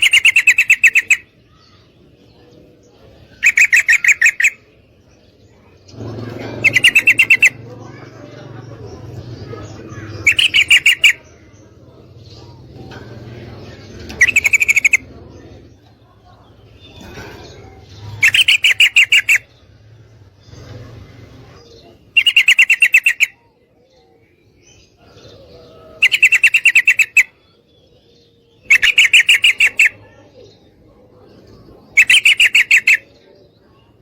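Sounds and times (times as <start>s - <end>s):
bird chattering calls: 0.0s - 2.3s, 3.0s - 23.6s, 25.0s - 27.6s, 28.6s - 30.8s, 31.4s - 34.0s.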